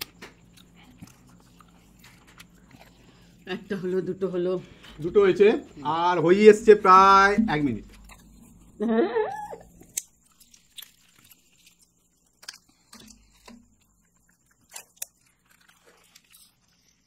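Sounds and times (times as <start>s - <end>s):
chocolates being chewed: 0.0s - 6.8s, 7.6s - 17.0s.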